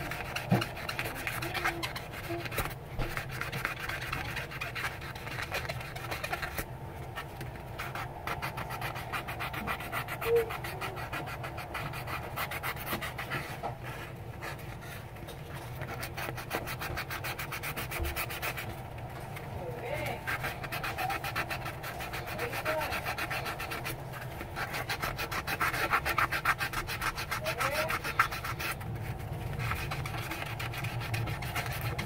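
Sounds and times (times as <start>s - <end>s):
nail buffer scratching on nail: 0.0s - 13.8s, 14.4s - 18.8s, 19.6s - 32.0s.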